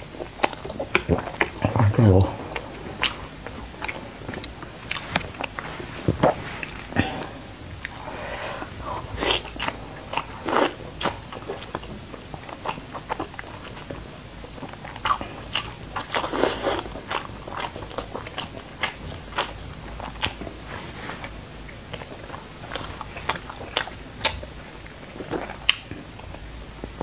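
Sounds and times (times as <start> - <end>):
wet biting and chewing: 0.1 - 8.0, 9.0 - 27.0.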